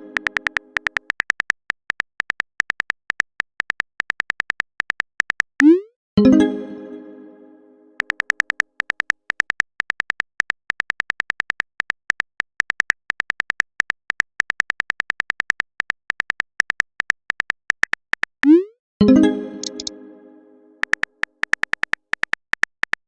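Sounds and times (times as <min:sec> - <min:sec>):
phone keyboard typing clicks: 0:00.0 - 0:05.8, 0:08.0 - 0:18.7, 0:19.6 - 0:19.9, 0:20.8 - 0:23.0.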